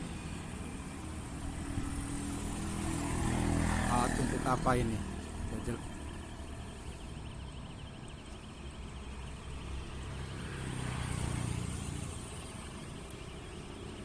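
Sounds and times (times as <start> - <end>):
traffic background: 0.0 - 14.0
vehicle passing: 0.0 - 14.0.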